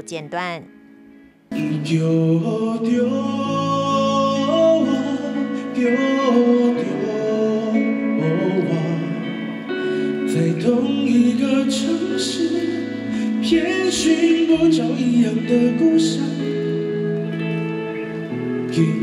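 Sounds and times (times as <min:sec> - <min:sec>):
electric guitar: 0:00.0 - 0:19.0
man singing: 0:01.5 - 0:17.0, 0:18.7 - 0:19.0.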